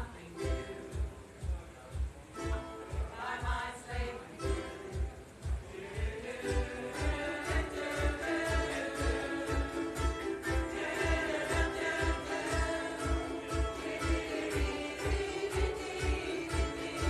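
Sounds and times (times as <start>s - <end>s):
low bass beat: 0.0s - 17.0s
ukulele ensemble strumming: 0.0s - 17.0s
group singing in harmony: 2.4s - 5.0s, 5.6s - 17.0s.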